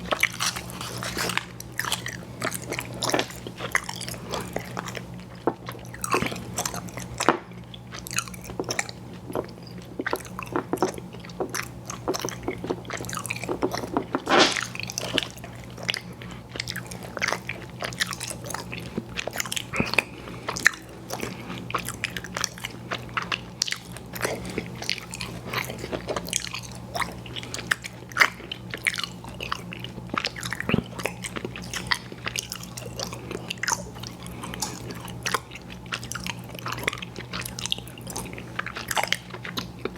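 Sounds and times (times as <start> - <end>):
chewing candy with mouth clicks: 0.0 - 39.9.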